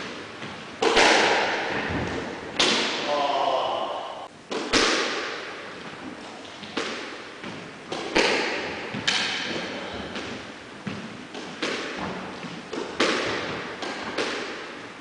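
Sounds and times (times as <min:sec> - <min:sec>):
squash ball hitting rackets and walls: 0:00.0 - 0:03.4, 0:04.5 - 0:15.0.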